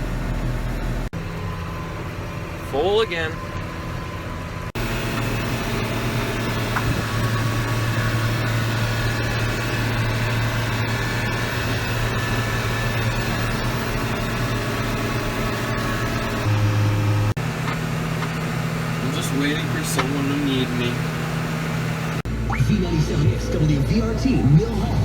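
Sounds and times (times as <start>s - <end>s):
farm vehicle engine running: 0.0s - 25.0s.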